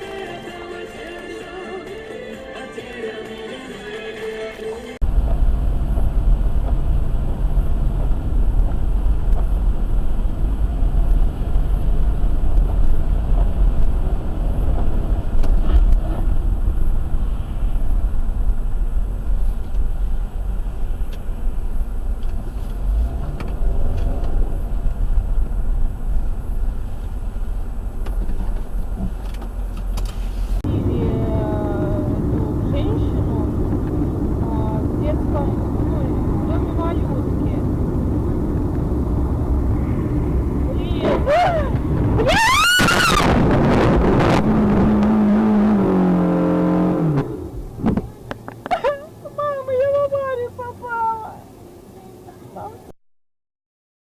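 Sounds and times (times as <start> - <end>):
car engine and road rumble: 5.0 - 52.9.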